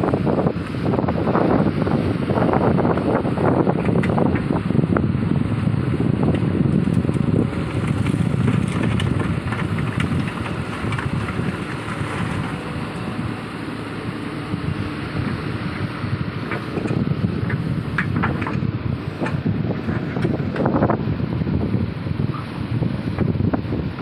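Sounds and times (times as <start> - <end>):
excavator diesel engine running: 0.0 - 24.0
wind buffeting microphone: 0.0 - 24.0.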